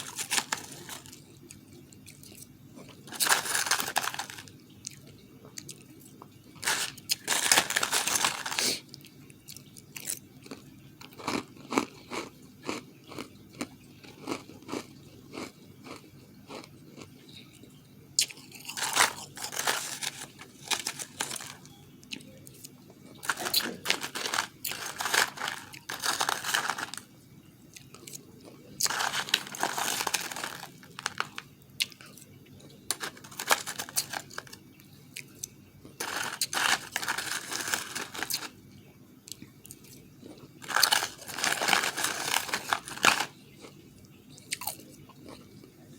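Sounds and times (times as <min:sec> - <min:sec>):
crunching and chewing ice: 0:00.0 - 0:17.6, 0:18.2 - 0:27.1, 0:27.7 - 0:38.6, 0:39.3 - 0:45.8.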